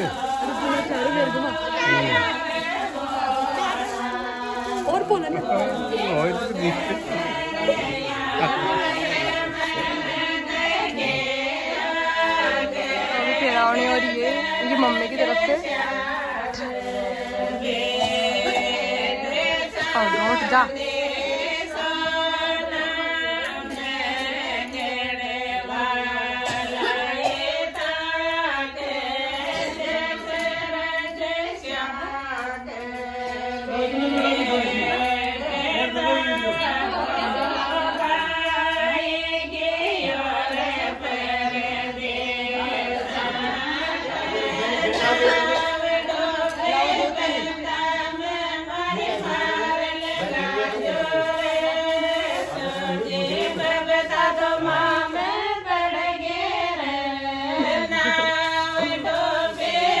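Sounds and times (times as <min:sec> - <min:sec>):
women singing unaccompanied: 0:00.0 - 1:00.0.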